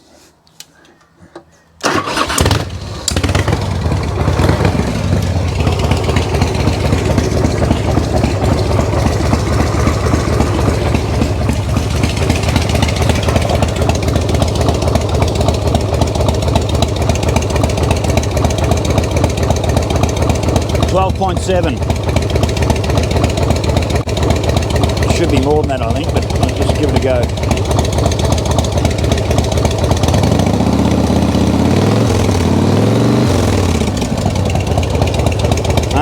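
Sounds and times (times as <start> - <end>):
electric starter cranking: 1.8 - 31.7
motorcycle engine idling: 1.9 - 36.0.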